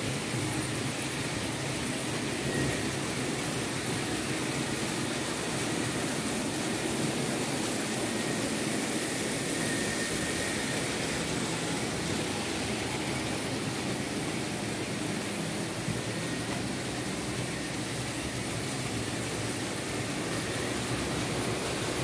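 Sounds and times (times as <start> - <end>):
model train motors whirring: 0.0 - 22.0.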